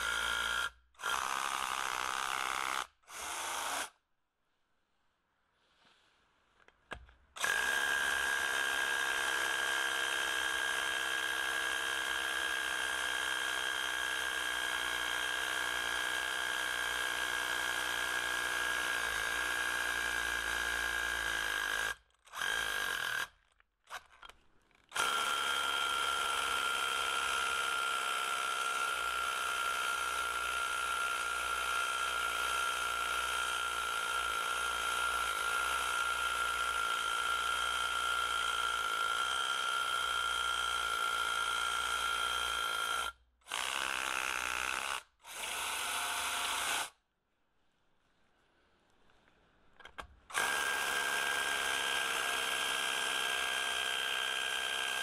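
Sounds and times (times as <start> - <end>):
hammer drill drilling into concrete: 0.0 - 4.0, 6.9 - 47.0, 50.3 - 55.0.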